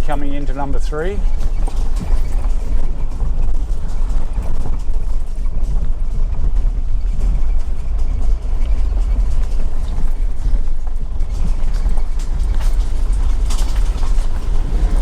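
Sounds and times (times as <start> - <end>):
vehicle road rumble: 0.0 - 15.0
knocks and rattles: 1.2 - 15.0.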